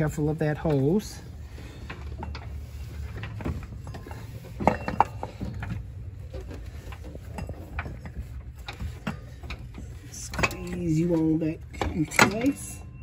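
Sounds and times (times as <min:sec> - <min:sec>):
steady low hum: 0:00.0 - 0:13.0
light metallic clinks and knocks: 0:01.8 - 0:13.0.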